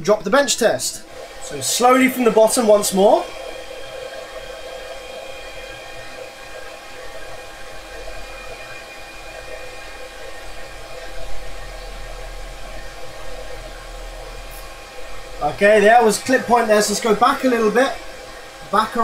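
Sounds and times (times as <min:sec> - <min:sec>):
amplifier test setup whirring: 0:00.3 - 0:19.0
low hum: 0:00.9 - 0:19.0
faint whining tones: 0:01.0 - 0:19.0.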